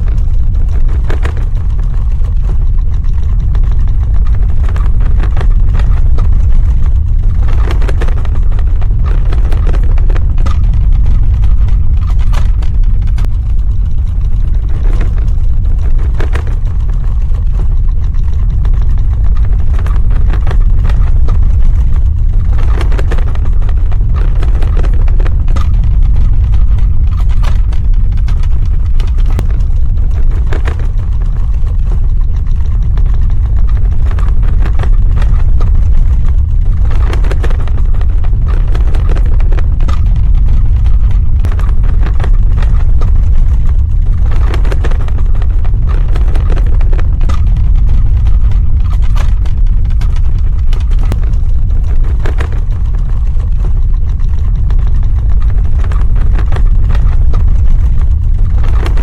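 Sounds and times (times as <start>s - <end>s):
crackles: 0.0s - 59.0s
deep ground rumble: 0.0s - 59.0s.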